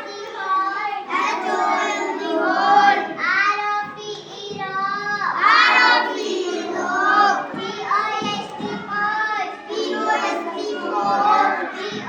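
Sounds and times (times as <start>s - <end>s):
children chanting in unison: 0.0s - 12.0s.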